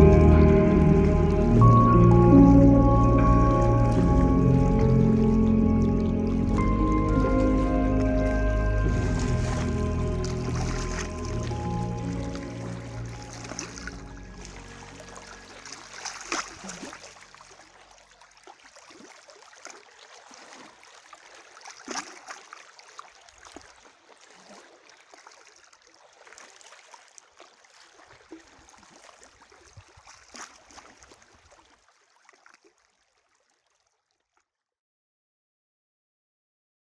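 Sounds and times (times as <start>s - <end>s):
sea water lapping and gurgling: 0.0s - 34.4s
small splashes: 3.1s - 34.5s.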